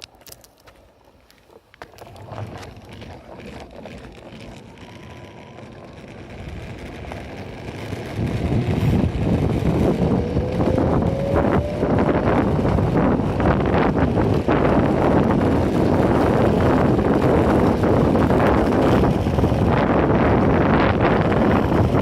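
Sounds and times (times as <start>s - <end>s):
skateboard wheel rumble: 0.0s - 22.0s
wind buffeting microphone: 2.0s - 22.0s.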